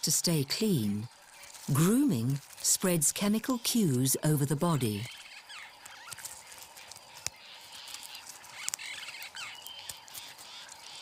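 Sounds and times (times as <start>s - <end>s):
small animals chirping: 0.4s - 11.0s.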